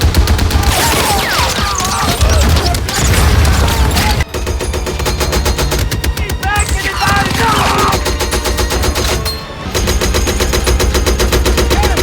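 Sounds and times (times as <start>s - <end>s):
rifles and machine guns firing: 0.0s - 12.0s.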